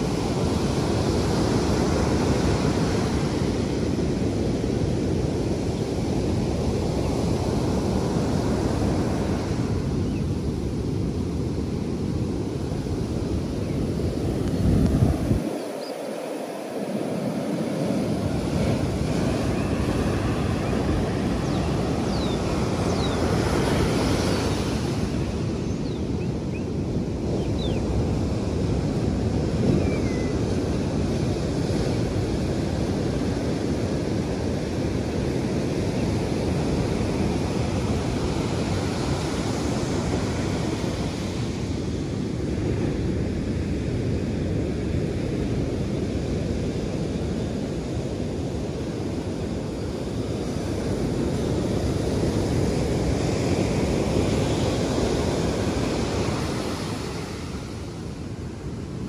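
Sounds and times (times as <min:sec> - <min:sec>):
ocean waves breaking: 0:00.0 - 0:59.0
wind on microphone: 0:00.0 - 0:59.0.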